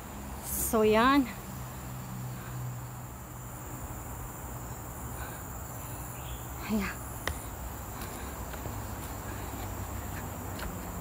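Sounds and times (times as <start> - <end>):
insects buzzing chorus: 0.0 - 11.0.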